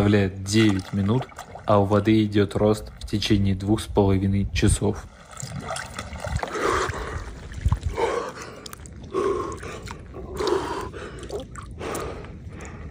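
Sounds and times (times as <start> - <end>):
water dripping and sloshing: 0.0 - 4.1, 4.7 - 12.9.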